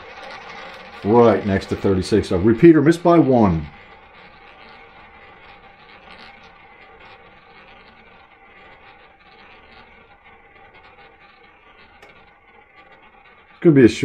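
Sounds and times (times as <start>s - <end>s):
ball rolling in roulette wheel: 0.0s - 14.0s.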